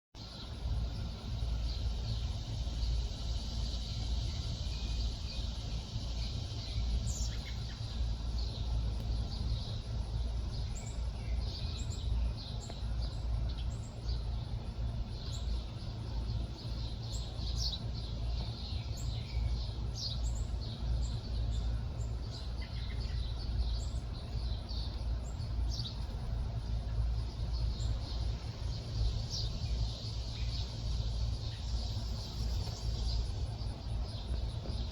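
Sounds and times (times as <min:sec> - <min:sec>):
birds chirping: 0:00.2 - 0:34.9
steady low rumble: 0:00.2 - 0:34.9.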